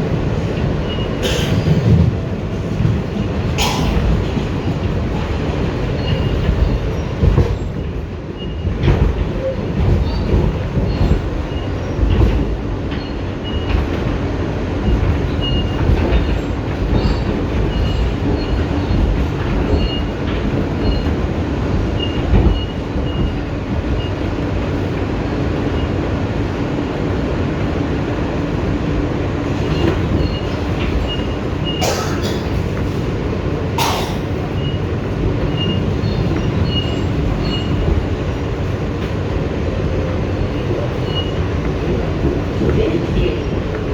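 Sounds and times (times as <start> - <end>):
wheels rumbling on rail: 0.0 - 43.9.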